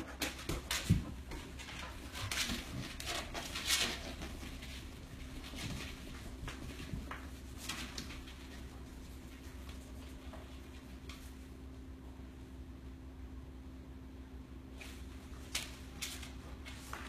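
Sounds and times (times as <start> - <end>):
dog scuffing on tile floor: 0.0 - 11.5, 14.8 - 17.0.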